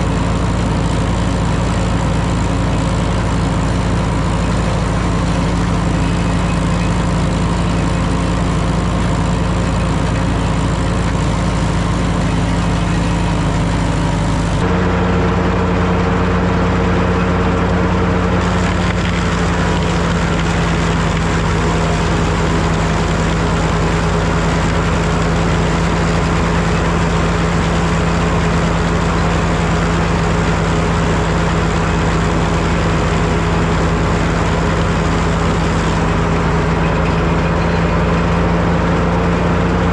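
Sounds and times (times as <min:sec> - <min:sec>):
steady machine hum: 0:00.0 - 0:39.9
tractor engine running: 0:00.0 - 0:39.9.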